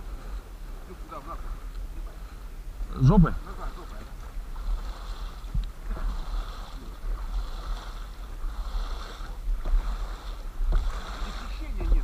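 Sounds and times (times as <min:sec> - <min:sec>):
water lapping against boat hull: 0:00.0 - 0:12.0
wind rumble on microphone: 0:00.0 - 0:12.0.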